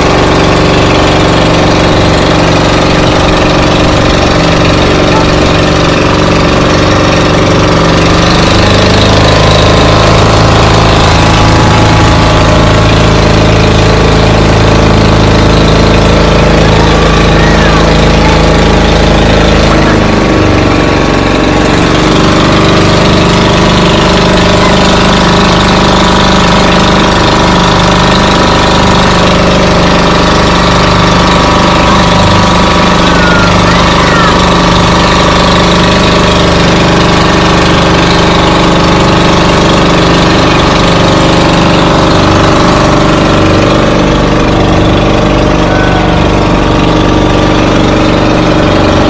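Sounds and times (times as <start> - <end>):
engine running loudly: 0.0 - 49.0.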